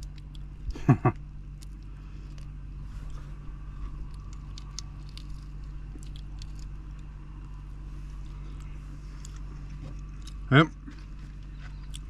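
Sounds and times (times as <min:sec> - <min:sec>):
shells cracking as peeled: 0:00.0 - 0:12.0
steady low hum: 0:00.0 - 0:12.0
person chewing: 0:01.5 - 0:12.0.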